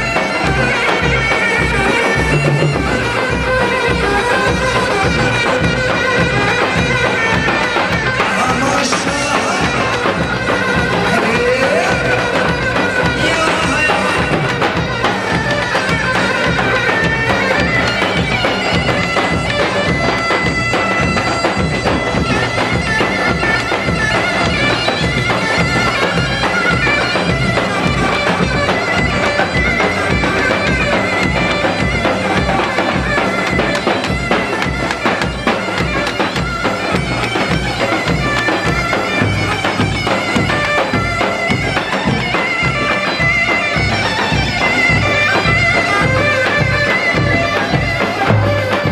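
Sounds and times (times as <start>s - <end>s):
reedy wind instrument melody: 0.0s - 48.9s
steady drum beat: 0.0s - 48.9s.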